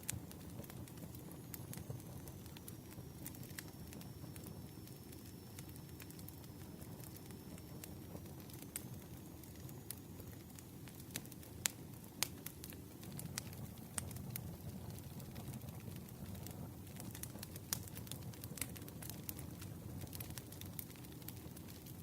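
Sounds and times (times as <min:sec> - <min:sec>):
burning wood crackling and popping: 0:00.0 - 0:22.0
campfire flames rushing: 0:00.1 - 0:22.0.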